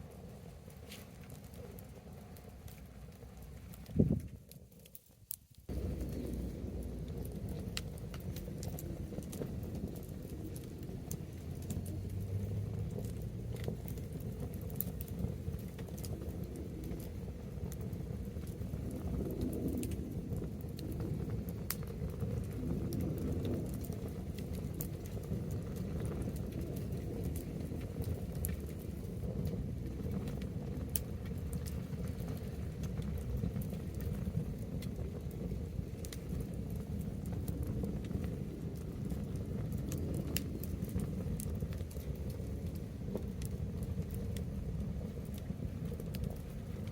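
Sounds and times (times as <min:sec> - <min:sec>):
bonfire crackling and popping: 0:00.0 - 0:46.9
fire low rumble: 0:00.0 - 0:46.9.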